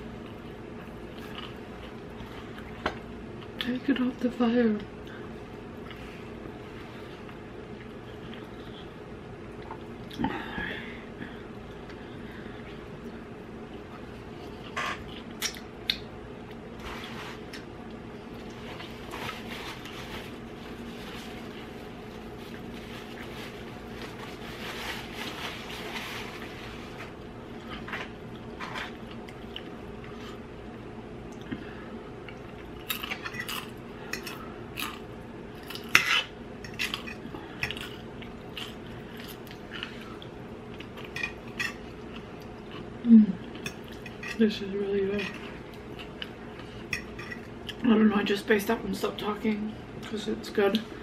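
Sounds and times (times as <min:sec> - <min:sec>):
soft eating sounds: 0:00.0 - 0:51.0
steady low hum: 0:00.0 - 0:51.0.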